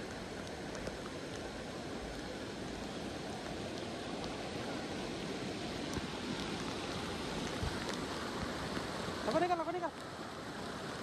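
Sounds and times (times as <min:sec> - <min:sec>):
flood water rushing: 0:00.0 - 0:11.0.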